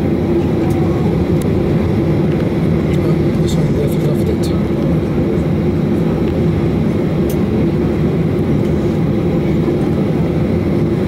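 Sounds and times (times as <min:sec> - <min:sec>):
jet engines rumbling: 0:00.0 - 0:11.0
steady low hum: 0:00.0 - 0:11.0.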